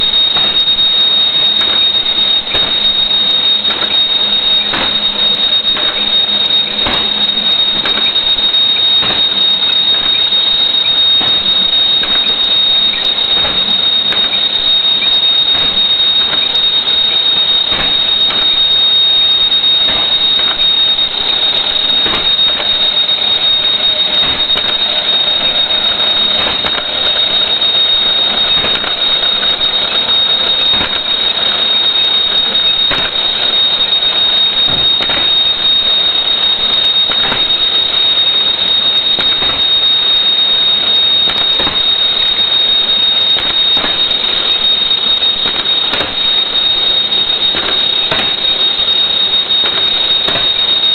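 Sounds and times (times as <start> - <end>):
high-pitched machine whine: 0.0 - 50.9
mechanical clatter: 0.0 - 50.9.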